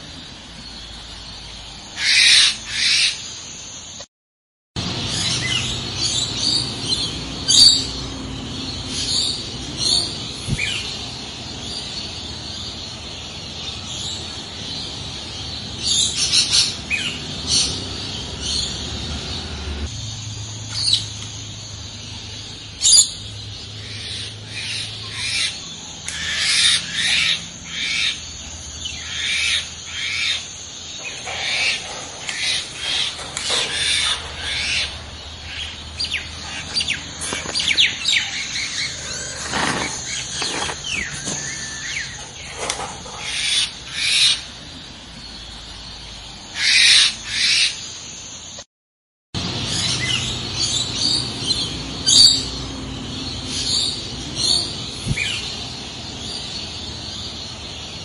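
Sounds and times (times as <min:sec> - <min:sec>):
birds chirping and calling: 0:00.0 - 0:04.0, 0:04.8 - 0:48.4, 0:49.4 - 0:58.0.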